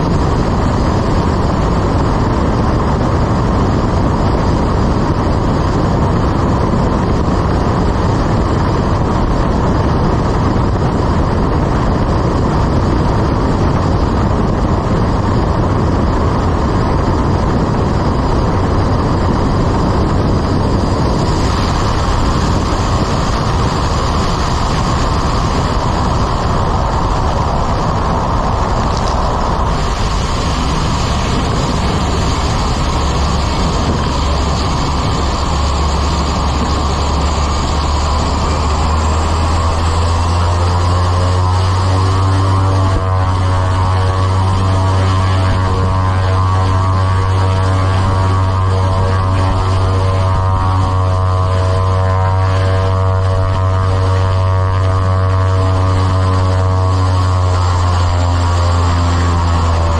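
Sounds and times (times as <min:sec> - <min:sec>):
air rushing past: 0:00.0 - 0:59.9
propeller aircraft engine droning: 0:00.0 - 0:59.9.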